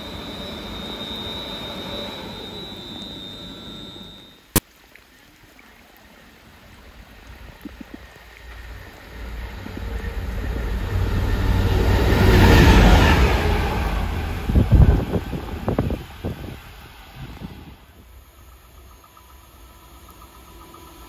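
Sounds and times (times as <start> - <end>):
diesel locomotive passing: 0.0 - 4.4, 8.2 - 21.0.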